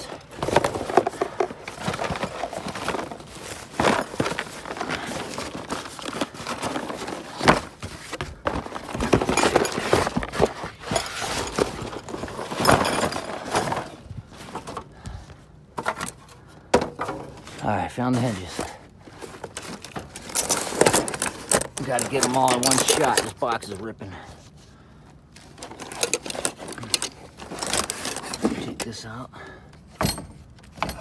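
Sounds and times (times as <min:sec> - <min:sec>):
cardboard scraping and rustling: 0:00.0 - 0:15.0, 0:15.8 - 0:23.5, 0:25.3 - 0:28.9
heavy parts clunking: 0:00.0 - 0:24.0, 0:25.1 - 0:31.0.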